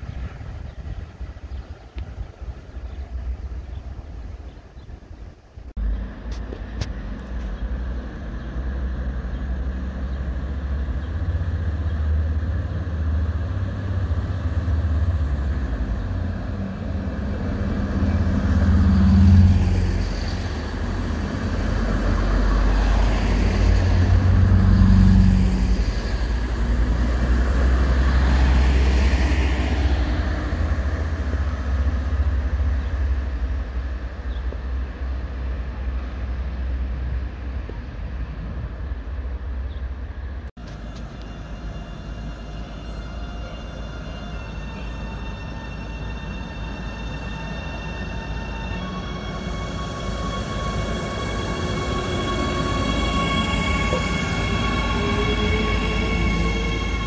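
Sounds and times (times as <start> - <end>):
diesel train engine drone: 0.0 - 57.0.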